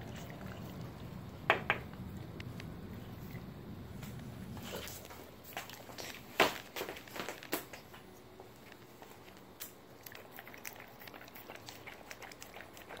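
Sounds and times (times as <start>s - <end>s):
dog licking and mouthing: 0.0s - 13.0s.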